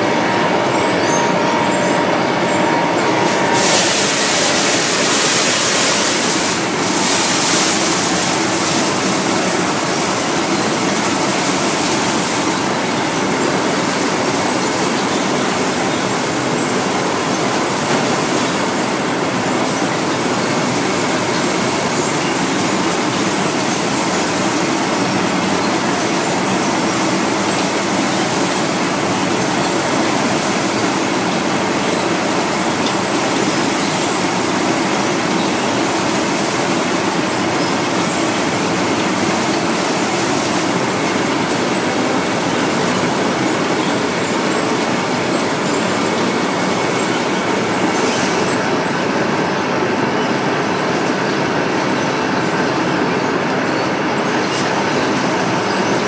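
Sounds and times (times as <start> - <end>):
faint machine whine: 0.0 - 56.0.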